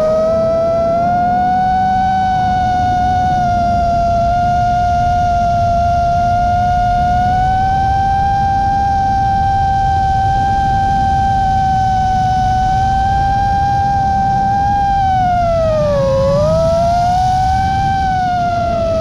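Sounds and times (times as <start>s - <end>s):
drone motors whining: 0.0s - 19.0s
low rushing noise: 0.0s - 19.0s.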